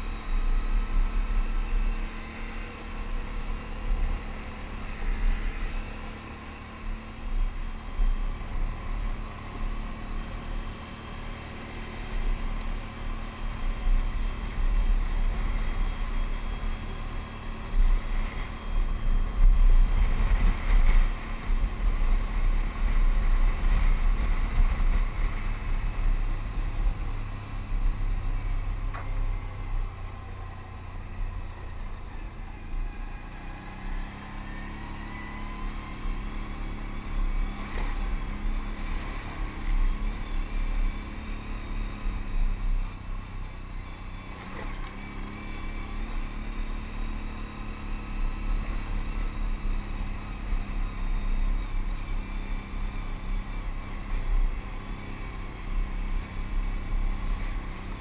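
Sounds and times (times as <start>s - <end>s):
atv engine running on gravel: 0.0s - 58.0s.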